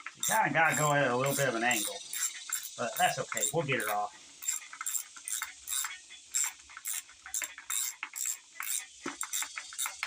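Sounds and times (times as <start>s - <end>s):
ratchet wrench clicking: 0.2s - 10.0s.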